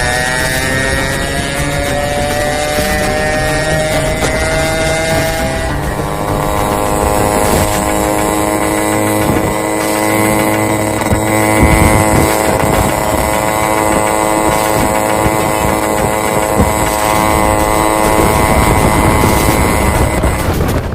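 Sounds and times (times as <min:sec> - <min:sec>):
two-stroke motorcycle engine running: 0:00.0 - 0:20.9.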